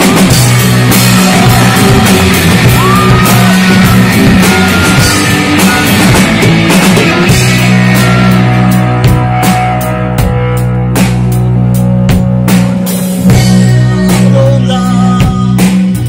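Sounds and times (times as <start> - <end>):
drum and cymbal hits: 0.0 - 16.0
live rock band playing: 0.0 - 16.0.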